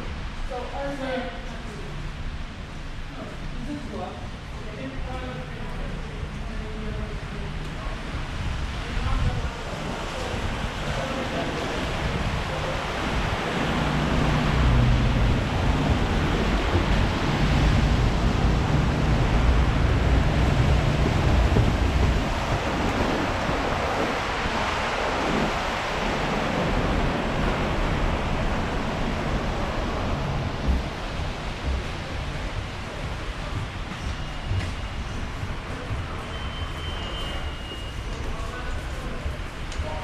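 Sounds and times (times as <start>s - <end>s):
heavy low rumble: 0.0s - 36.4s
subway station ambience: 0.0s - 40.0s.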